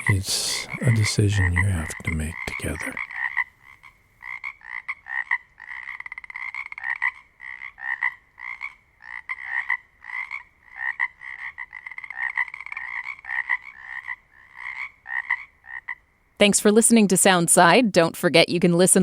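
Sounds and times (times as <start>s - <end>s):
chorus of frogs croaking: 0.0s - 16.4s.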